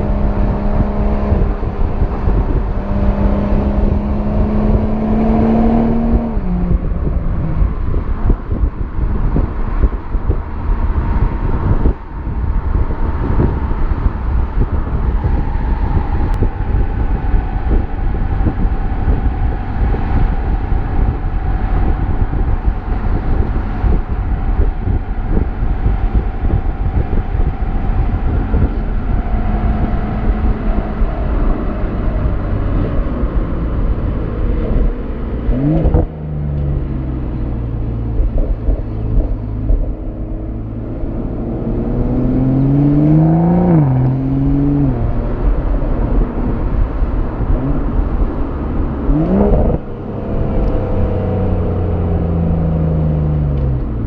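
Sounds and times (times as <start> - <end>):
car engine exhaust note: 0.0 - 54.0
low exhaust rumble: 0.0 - 54.0.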